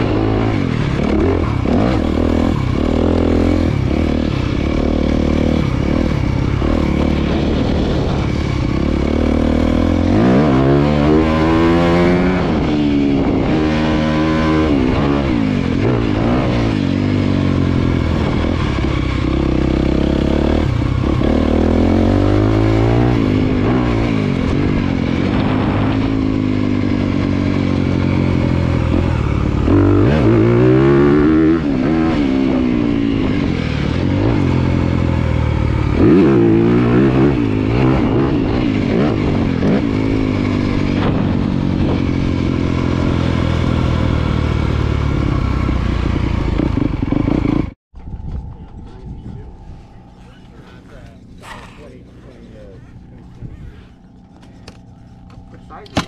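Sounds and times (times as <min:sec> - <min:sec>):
dirt bike engine revving: 0:00.0 - 0:47.8, 0:49.4 - 0:56.0.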